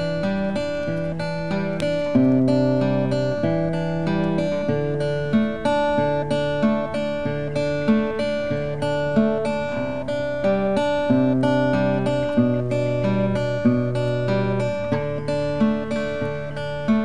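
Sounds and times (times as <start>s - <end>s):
acoustic guitar picking: 0.0s - 17.0s.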